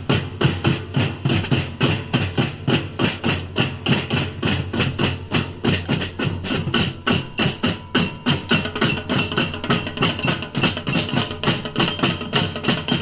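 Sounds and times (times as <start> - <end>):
percussion ensemble drumming: 0.0 - 13.0.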